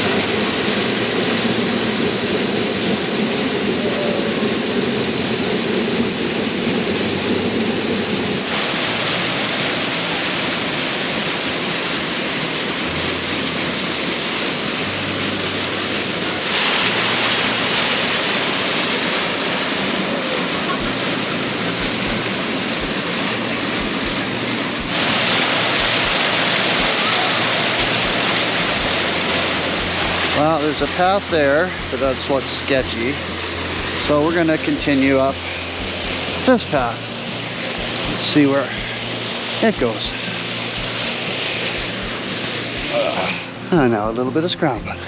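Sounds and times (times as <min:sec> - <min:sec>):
creek waterfall rushing: 0:00.0 - 0:45.0.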